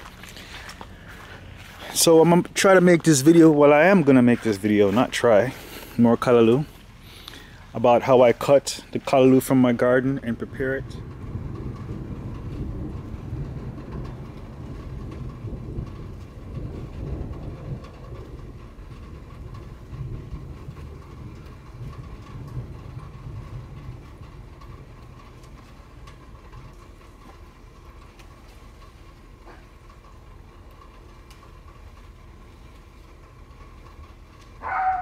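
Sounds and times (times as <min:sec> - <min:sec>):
low uneven rumble: 0:00.0 - 0:35.0.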